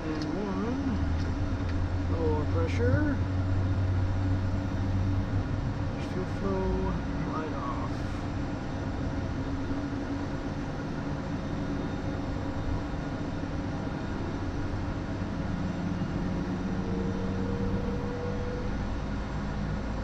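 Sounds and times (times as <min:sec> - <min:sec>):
jet engine whine and rumble: 0:00.0 - 0:20.0.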